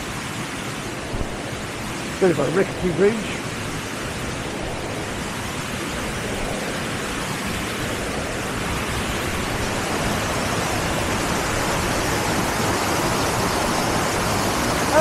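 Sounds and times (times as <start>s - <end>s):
water rushing in a stream: 0.0s - 15.0s.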